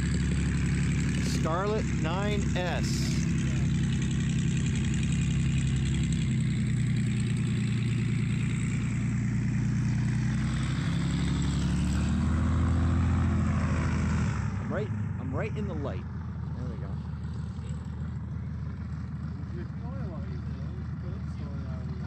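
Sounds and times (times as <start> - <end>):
aircraft engine and propeller: 0.0 - 22.0.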